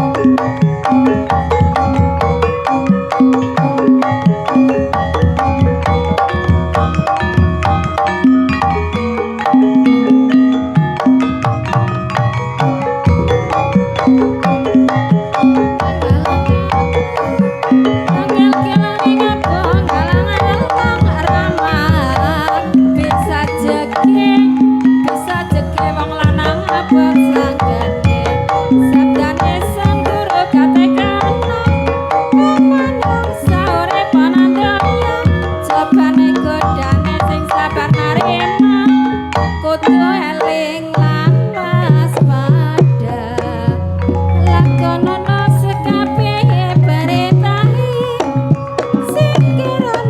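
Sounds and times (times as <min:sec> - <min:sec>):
gamelan music: 0:00.0 - 0:50.0
hand drum strokes: 0:00.0 - 0:50.0
struck metallophone notes: 0:00.0 - 0:50.0
wavering ornamented melody line: 0:00.0 - 0:50.0.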